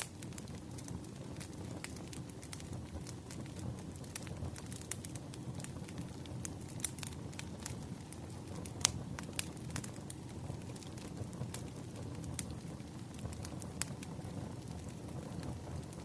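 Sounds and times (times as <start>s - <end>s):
fire rumbling: 0.0s - 16.0s
firewood popping and snapping: 0.0s - 16.0s.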